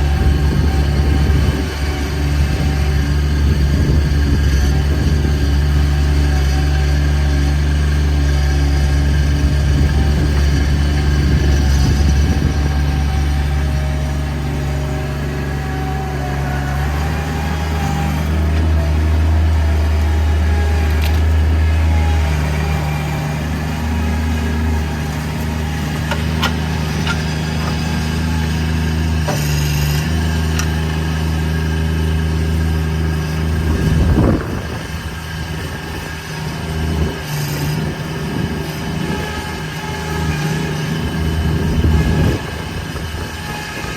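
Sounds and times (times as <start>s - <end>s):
loader engine running: 0.0s - 43.9s.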